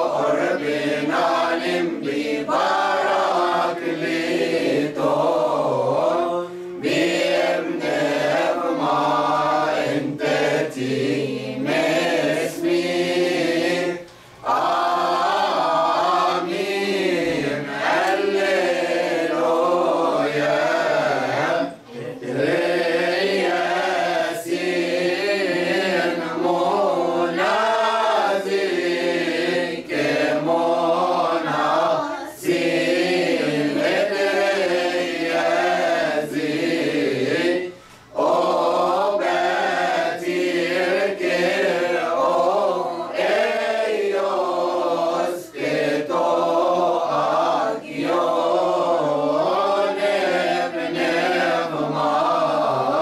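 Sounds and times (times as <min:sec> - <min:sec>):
choir chanting a hymn: 0:00.0 - 0:53.0.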